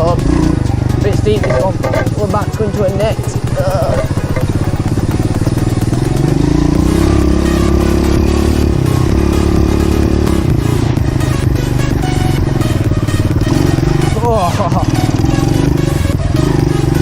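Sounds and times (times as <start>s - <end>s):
pit bike engine running: 0.0s - 17.0s.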